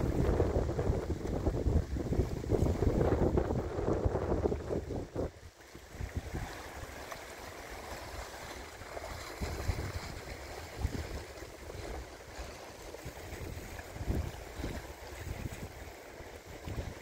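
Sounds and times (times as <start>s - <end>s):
wind gusting on microphone: 0.0s - 6.9s, 9.0s - 17.0s
rough sea washing over rocks: 0.0s - 17.0s.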